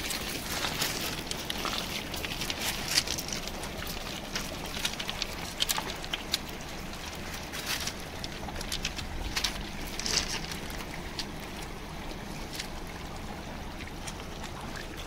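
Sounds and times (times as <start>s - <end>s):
river water rushing over pebbles: 0.0s - 15.0s
sharp pebble clicks: 0.0s - 15.0s.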